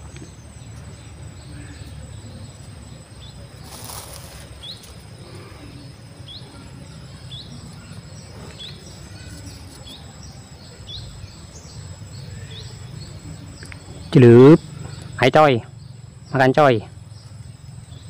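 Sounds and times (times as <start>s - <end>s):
bird chirps: 0.0s - 18.0s
insect trill: 0.0s - 18.0s.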